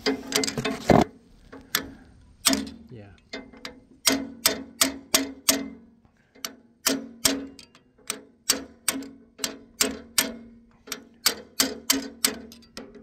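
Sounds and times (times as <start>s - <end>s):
metal valve gear clacking: 1.7s - 13.0s.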